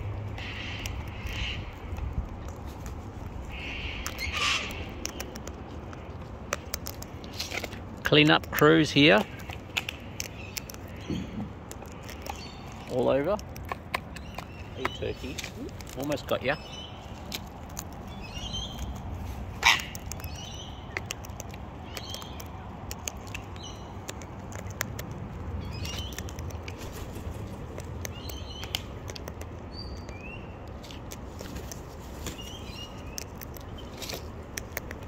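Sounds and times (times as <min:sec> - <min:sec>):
beak cracking seeds: 0:00.0 - 0:35.0.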